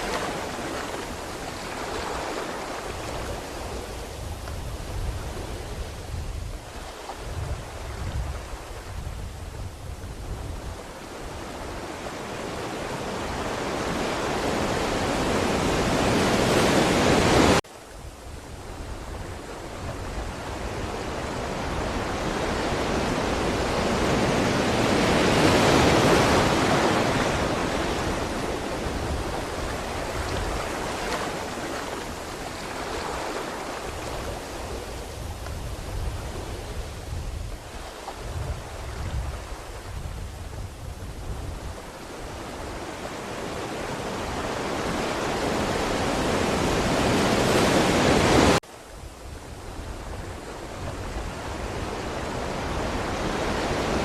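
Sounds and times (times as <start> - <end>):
ocean waves surging and washing: 0.0 - 54.0.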